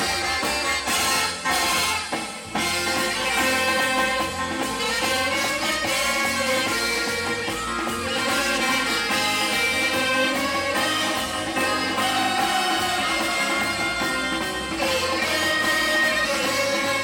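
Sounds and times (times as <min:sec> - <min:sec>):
live band music over speakers: 0:00.0 - 0:17.0.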